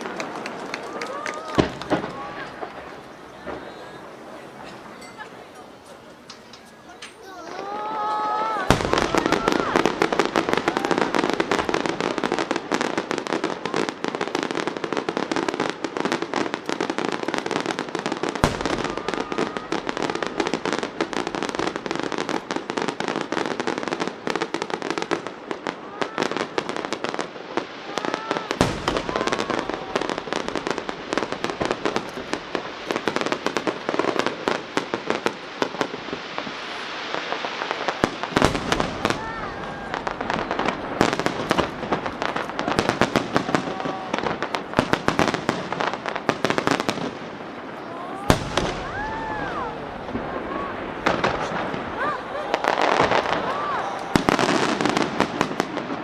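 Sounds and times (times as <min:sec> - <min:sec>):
fireworks crackling: 0:00.0 - 0:56.0
deep firework booms: 0:01.5 - 0:04.8, 0:07.5 - 0:56.0.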